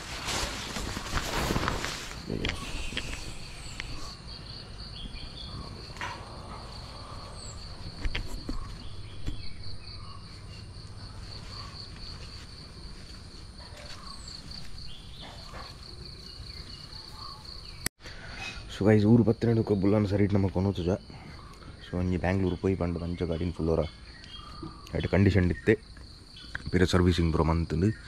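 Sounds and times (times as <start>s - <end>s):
insects trilling: 0.0s - 28.0s
faint bird chirps: 0.9s - 12.2s, 13.6s - 18.6s, 20.8s - 28.0s.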